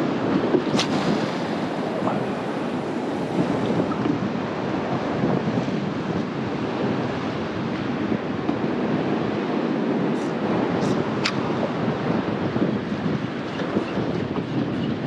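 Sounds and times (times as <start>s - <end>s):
water splashing along boat hull: 0.0s - 15.0s
wind buffeting microphone: 0.0s - 15.0s.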